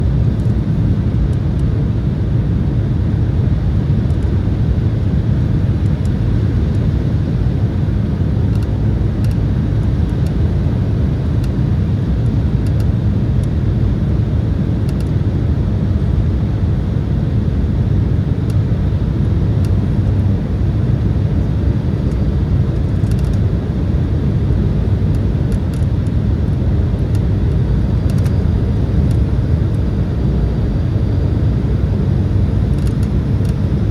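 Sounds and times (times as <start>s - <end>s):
airliner cabin engine and airflow noise: 0.0s - 33.9s.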